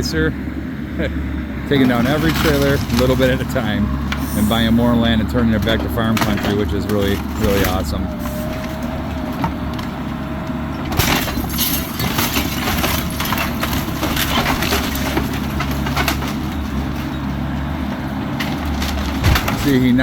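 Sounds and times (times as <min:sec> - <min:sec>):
excavator diesel engine running: 0:00.0 - 0:20.0
wooden structure cracking and crunching: 0:01.8 - 0:20.0.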